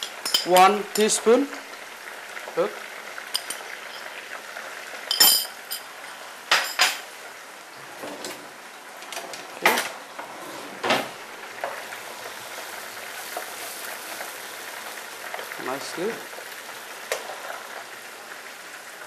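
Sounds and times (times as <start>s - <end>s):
onions sizzling in oil: 0.0s - 9.0s, 11.1s - 19.0s.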